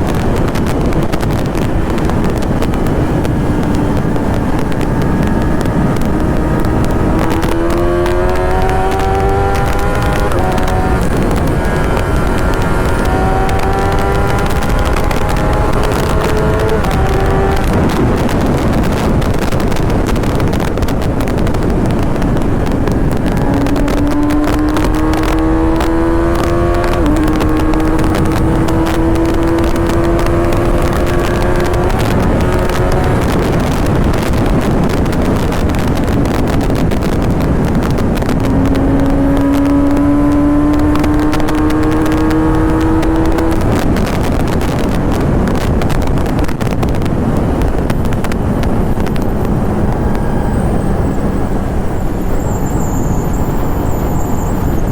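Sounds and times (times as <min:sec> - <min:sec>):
motorcycle engine revving: 0:00.0 - 0:54.9
wind rushing over microphone: 0:00.0 - 0:54.9.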